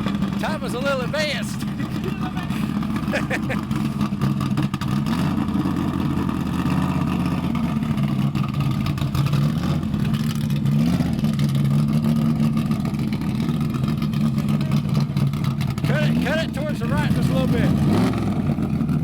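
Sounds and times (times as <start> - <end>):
loud car engine running: 0.0 - 19.0.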